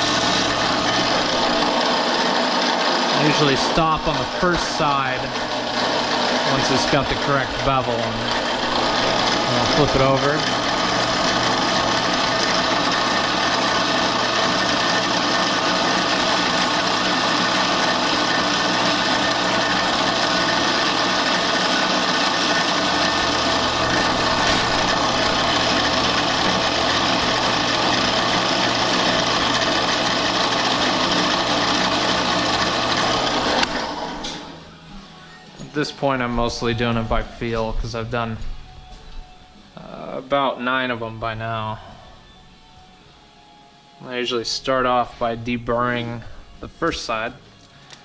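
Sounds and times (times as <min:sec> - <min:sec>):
drill press motor hum: 0:00.0 - 0:40.2.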